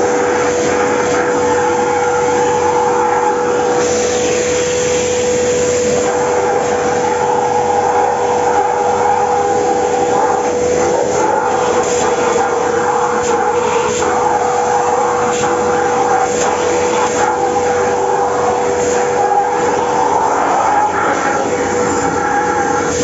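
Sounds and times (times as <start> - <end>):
vacuum cleaner motor whining: 0.0 - 23.0.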